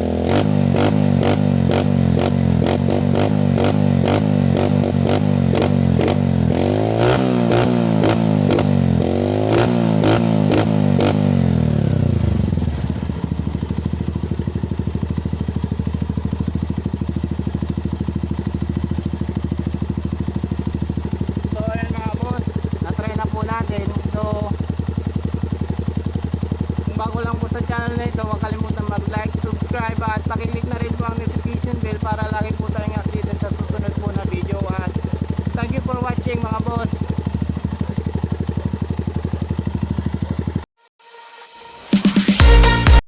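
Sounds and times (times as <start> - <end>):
motorcycle engine revving and idling: 0.0 - 40.8.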